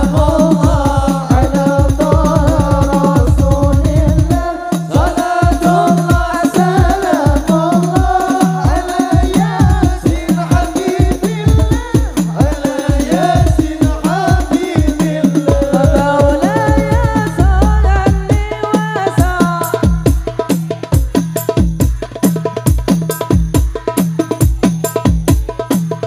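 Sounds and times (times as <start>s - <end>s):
men singing: 0.0s - 22.6s
frame drums beating: 0.0s - 26.0s.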